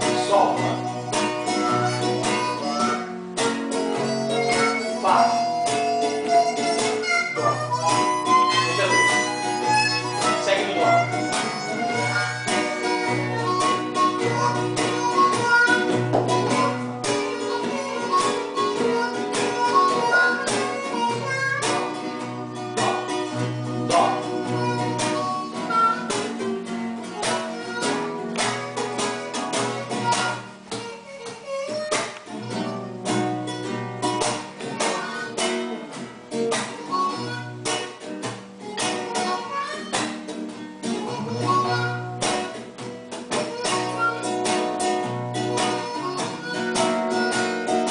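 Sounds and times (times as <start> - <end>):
guitars: 0.0 - 47.9
harmonica long notes: 0.0 - 47.9.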